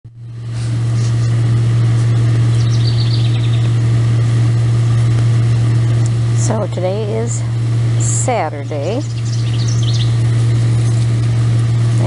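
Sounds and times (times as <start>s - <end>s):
loud low hum: 0.1s - 12.0s.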